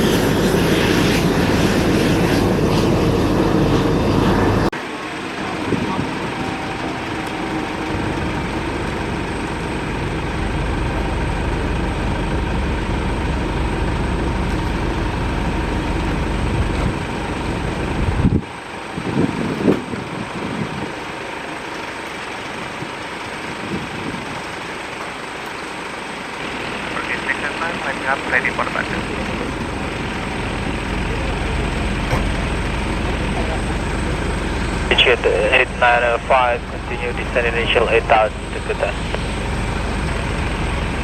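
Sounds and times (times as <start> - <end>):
jet airliner engines running: 0.0 - 41.0.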